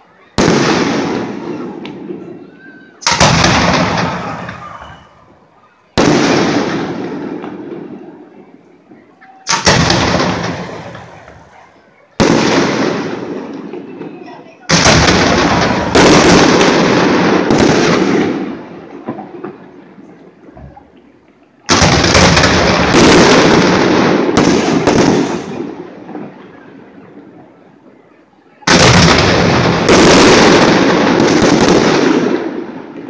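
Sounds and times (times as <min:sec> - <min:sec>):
fireworks bursting: 0:00.2 - 0:27.9, 0:28.6 - 0:33.0.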